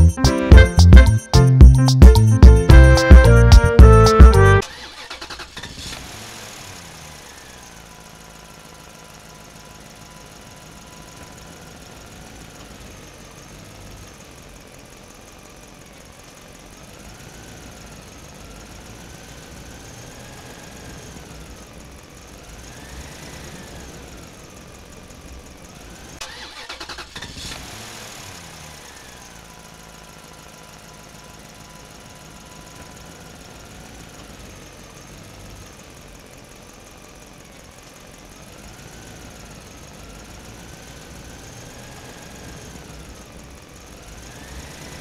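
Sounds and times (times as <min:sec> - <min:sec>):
vehicle engine running: 0:00.0 - 0:45.0.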